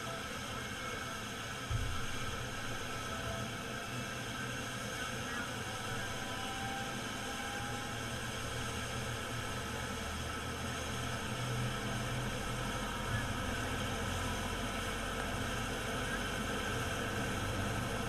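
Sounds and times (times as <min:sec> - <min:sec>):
helicopter running: 0:02.2 - 0:18.0.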